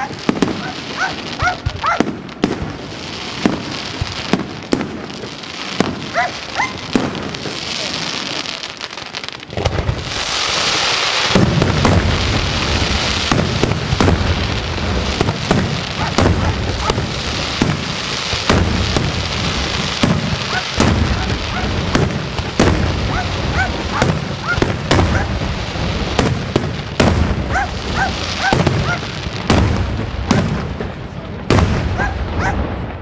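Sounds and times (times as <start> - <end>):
firework hissing rush: 0.0 - 30.6
firework bangs: 0.0 - 33.0.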